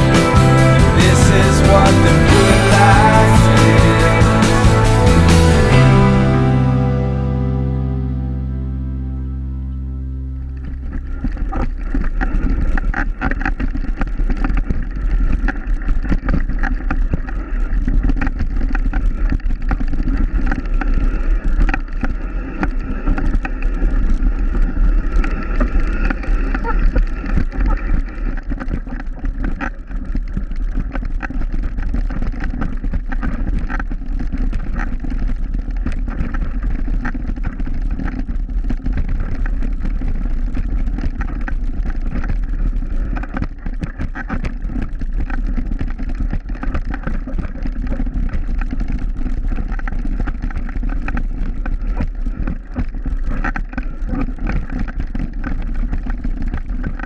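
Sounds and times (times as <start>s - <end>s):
bike tyres crunching over stones: 10.1s - 57.0s.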